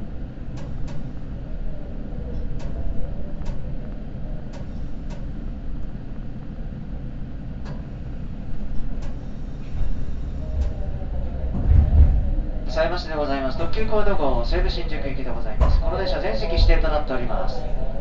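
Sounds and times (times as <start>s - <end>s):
train carriage rumble: 0.0s - 18.0s.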